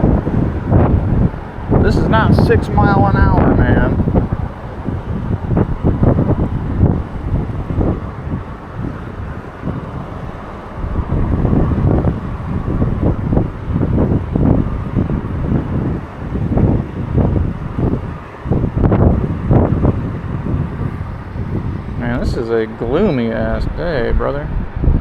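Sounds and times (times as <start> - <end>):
gusty wind buffeting microphone: 0.0 - 25.0.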